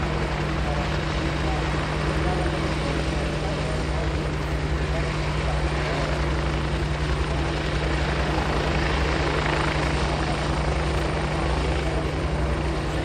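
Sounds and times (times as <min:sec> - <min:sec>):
helicopter engines droning: 0:00.0 - 0:13.0
helicopter rotors chopping: 0:00.0 - 0:13.0.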